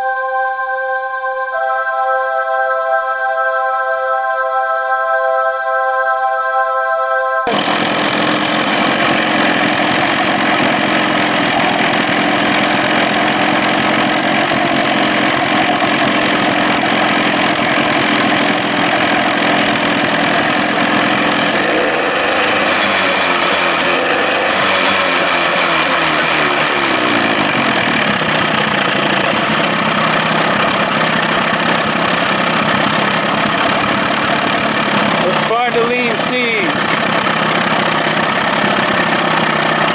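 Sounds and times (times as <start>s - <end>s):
outboard motor running: 7.5s - 39.9s.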